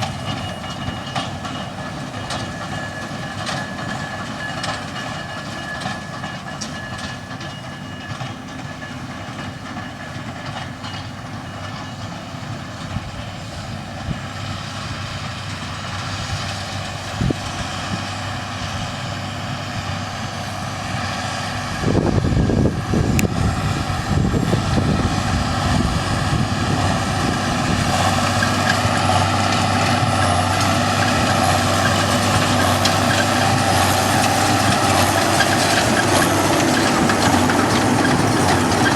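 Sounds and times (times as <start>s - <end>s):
heavy vehicle running: 0.0s - 38.9s.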